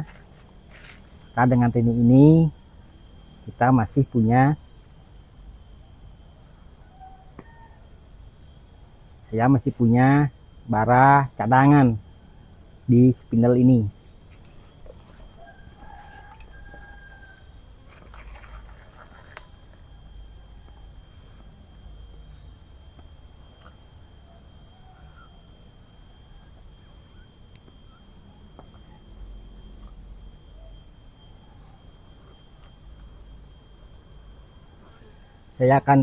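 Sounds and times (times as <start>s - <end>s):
high insect drone: 0.0s - 36.0s
insects chirping: 0.0s - 36.0s.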